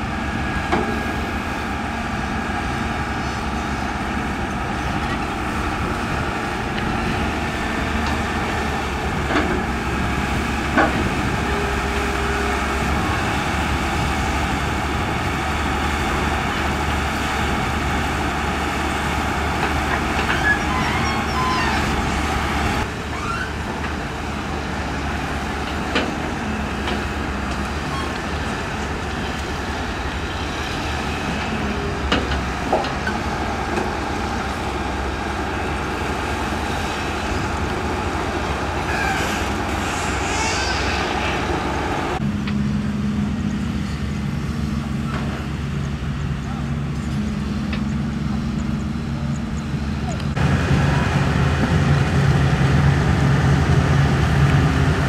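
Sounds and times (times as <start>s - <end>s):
excavator diesel engines running: 0.0s - 55.0s.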